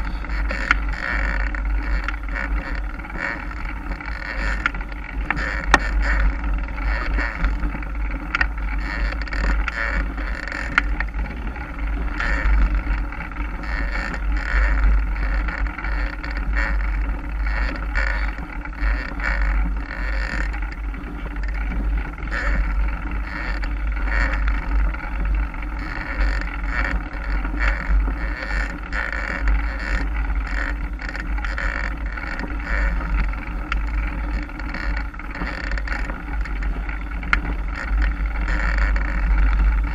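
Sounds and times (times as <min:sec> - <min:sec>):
bike rattles and clicks: 0:00.0 - 0:39.9
bike tyre noise on dirt: 0:00.0 - 0:39.9.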